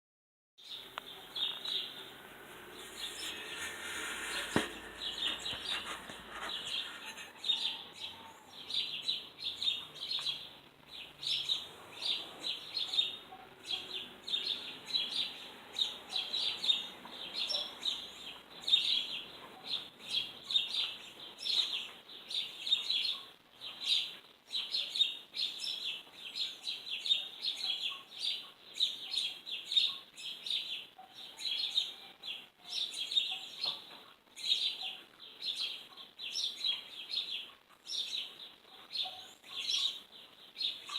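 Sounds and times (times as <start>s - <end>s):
bird chirping: 0.6s - 40.9s.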